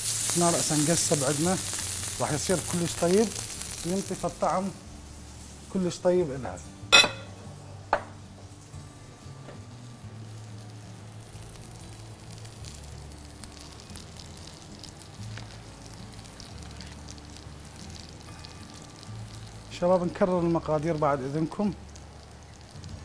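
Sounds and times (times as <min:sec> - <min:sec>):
fries sizzling in hot oil: 0:00.0 - 0:23.0.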